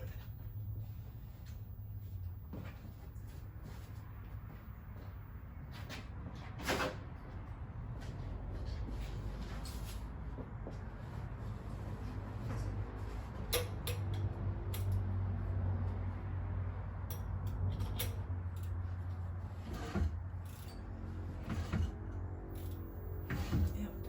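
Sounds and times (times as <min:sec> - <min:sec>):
steady low hum: 0:00.0 - 0:13.9, 0:16.1 - 0:24.0.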